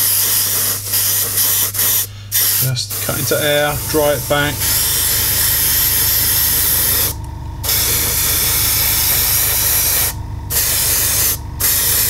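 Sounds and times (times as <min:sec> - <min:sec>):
airbrush spraying hiss: 0:00.0 - 0:12.0
steady low hum: 0:00.0 - 0:12.0.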